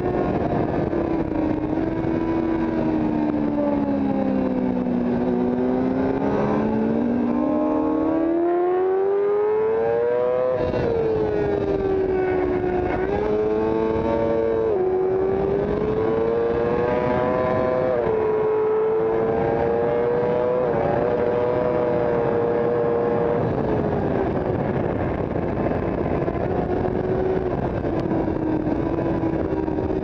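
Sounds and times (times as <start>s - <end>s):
motorcycle engine at high revs: 0.0s - 30.0s
wind rush: 0.0s - 30.0s.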